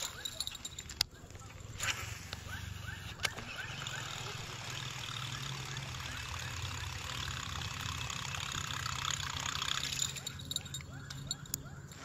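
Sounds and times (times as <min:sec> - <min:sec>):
fishing reel whirring: 0:00.0 - 0:01.0, 0:01.7 - 0:12.0.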